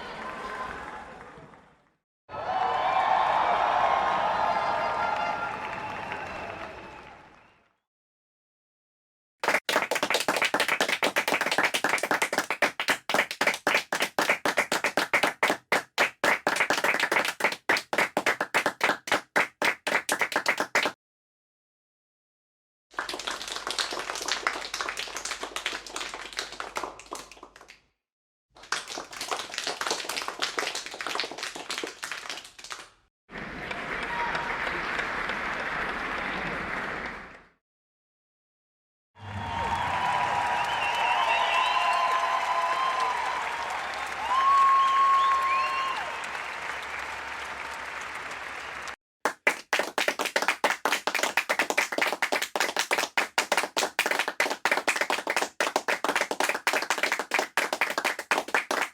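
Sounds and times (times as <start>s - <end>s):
applause: 0.0s - 7.8s, 9.4s - 21.0s, 22.9s - 27.9s, 28.6s - 37.6s, 39.2s - 58.9s.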